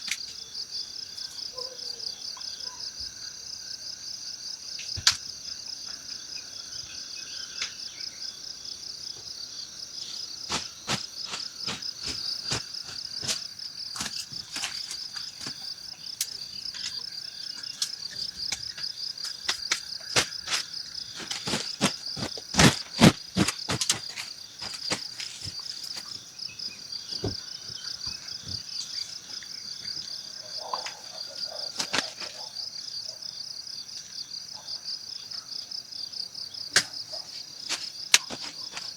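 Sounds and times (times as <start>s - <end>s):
insects trilling chorus: 0.0s - 38.9s.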